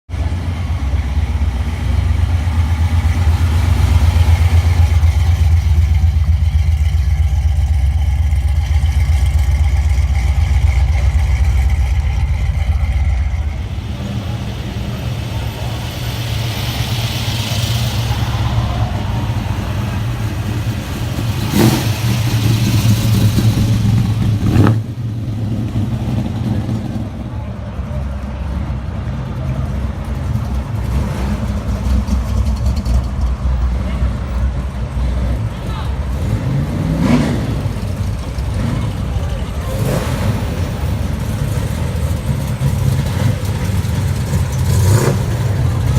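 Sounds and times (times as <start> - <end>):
car engine rumbling: 0.1 - 45.9.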